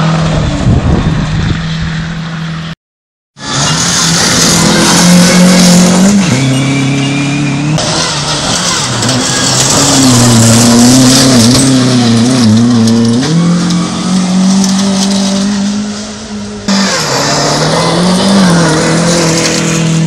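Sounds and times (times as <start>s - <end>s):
rally car engines revving: 3.4s - 20.0s.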